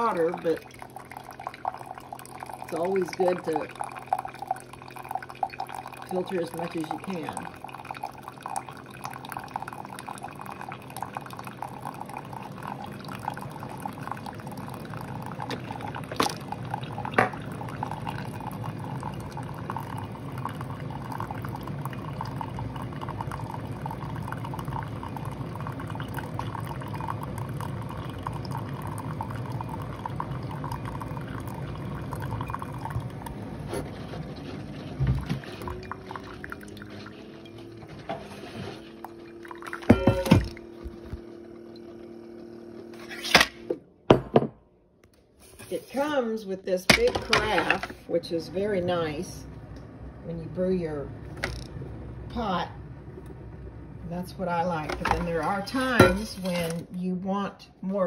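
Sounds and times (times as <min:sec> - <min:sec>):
coffee trickling into a mug: 0:00.0 - 0:43.1, 0:46.9 - 0:48.0, 0:54.6 - 0:57.0
coffee machine running: 0:00.0 - 0:44.5, 0:46.9 - 0:56.9.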